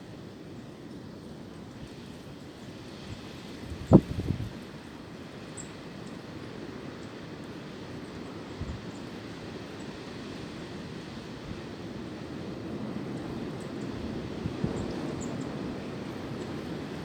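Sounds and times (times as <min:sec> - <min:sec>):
wind through tree branches: 0:00.0 - 0:17.0.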